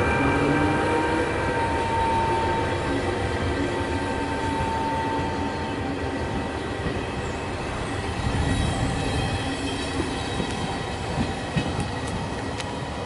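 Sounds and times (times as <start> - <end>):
high tones from train wheels: 0.0 - 13.0
train wheels on track: 0.0 - 13.0.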